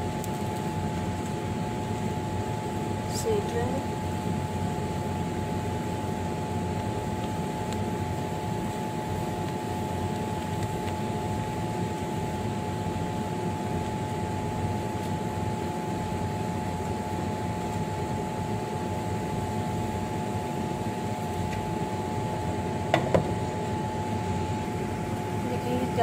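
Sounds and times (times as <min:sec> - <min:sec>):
fan humming: 0:00.0 - 0:26.0.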